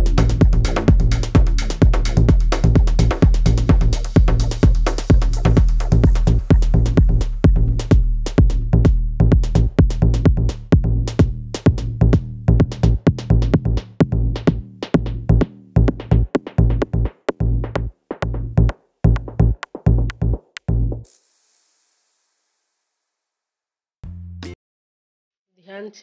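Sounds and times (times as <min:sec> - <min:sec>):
music with electronic drum beat: 0:00.0 - 0:22.1.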